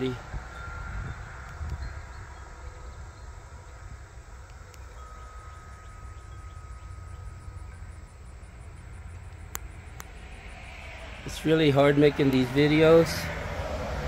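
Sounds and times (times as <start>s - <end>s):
faint held ringing tone: 0.0s - 12.2s
insects hissing: 0.0s - 12.7s
wind rumble on microphone: 0.0s - 14.0s.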